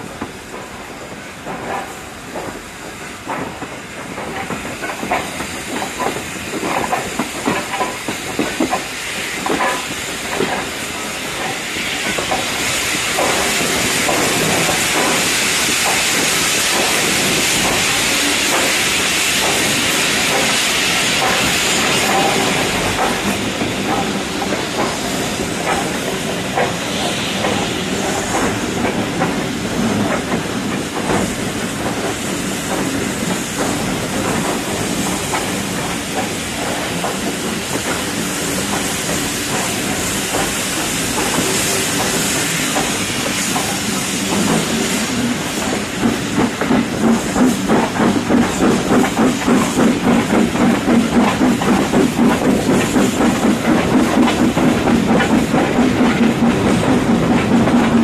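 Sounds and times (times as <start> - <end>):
loud steady steam hiss: 0.0 - 58.0
steam locomotive knocks and clanks: 0.0 - 58.0.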